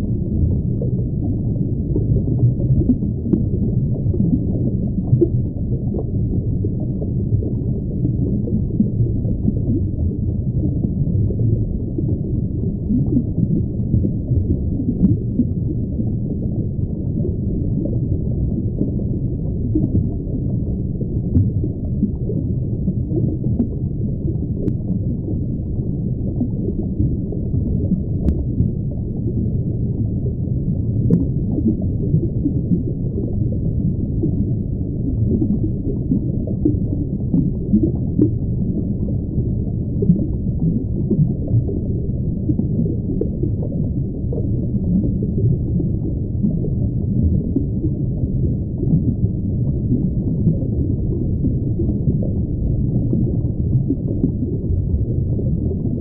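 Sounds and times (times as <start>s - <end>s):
muffled underwater rumble: 0.0s - 56.0s.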